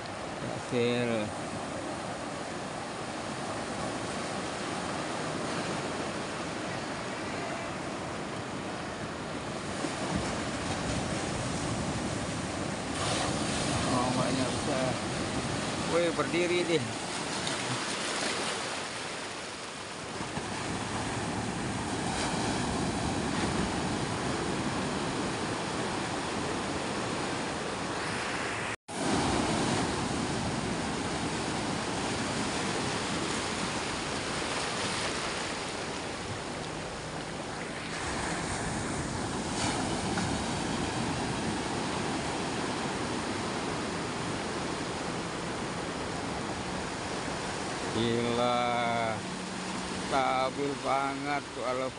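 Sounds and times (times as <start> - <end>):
sea waves rushing: 0.0 - 51.9.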